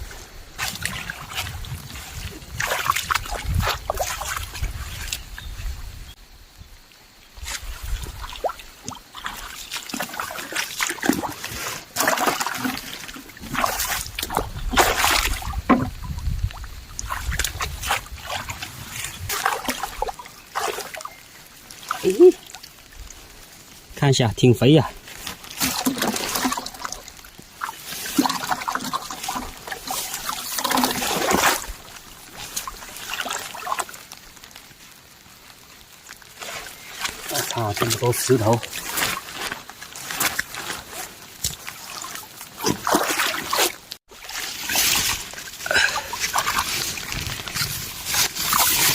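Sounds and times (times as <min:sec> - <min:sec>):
shallow water splashing: 0:00.0 - 0:05.5, 0:07.4 - 0:48.9.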